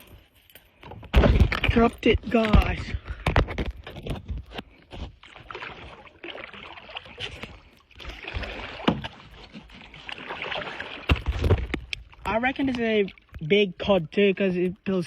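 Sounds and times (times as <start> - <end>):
water splashing around kayak: 0.8 - 15.0.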